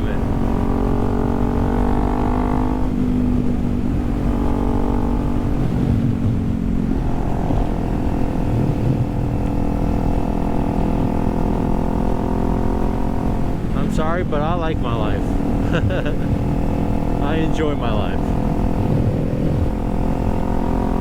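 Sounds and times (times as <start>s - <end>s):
low wind rush: 0.0s - 21.0s
motorcycle engine running: 0.0s - 21.0s.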